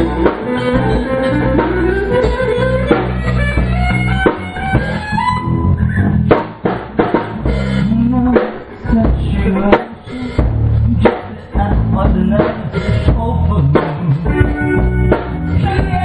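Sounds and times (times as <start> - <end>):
drum kit hits: 0.0 - 5.2, 6.2 - 16.0
electric guitars: 0.0 - 16.0
live rock band: 0.0 - 16.0.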